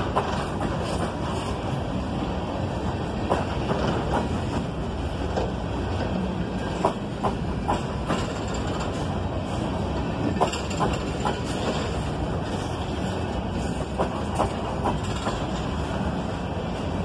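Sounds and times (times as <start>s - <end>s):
wheels clacking over rail joints: 0.0s - 1.7s, 3.2s - 16.0s
train wheels rumbling on rail: 0.0s - 17.0s.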